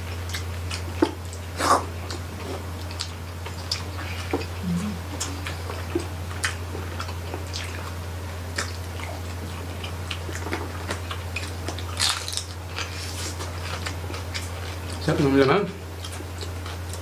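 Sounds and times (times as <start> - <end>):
low steady hum: 0.0 - 17.0
people chewing crunchy food: 0.0 - 17.0.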